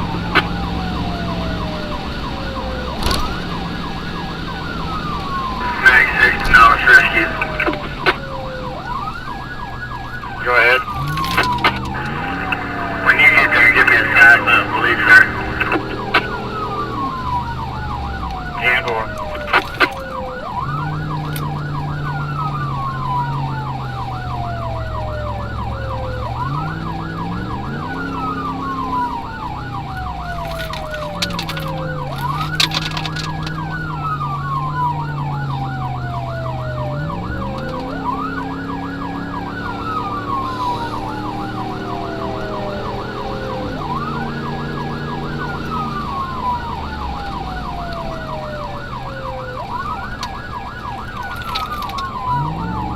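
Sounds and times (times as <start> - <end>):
siren wail rising and falling: 0.0 - 52.9
siren yelp warbling: 0.0 - 52.9.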